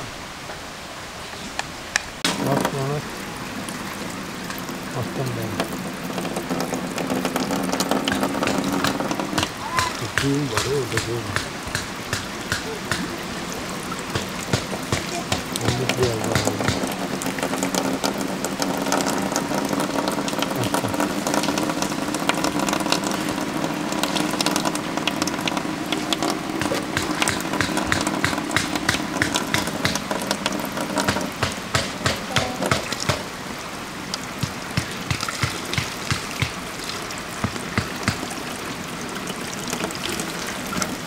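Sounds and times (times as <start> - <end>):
water splashing off waterwheel: 0.0 - 41.0.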